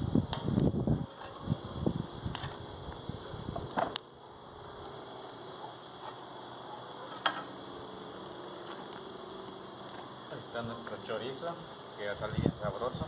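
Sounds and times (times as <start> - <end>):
sausage sizzling on a grill: 0.0 - 13.0.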